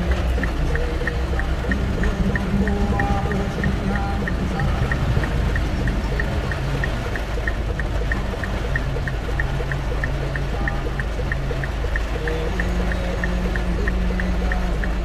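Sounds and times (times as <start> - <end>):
faint regular ticking: 0.0 - 15.0
rain pouring on car roof: 0.0 - 15.0.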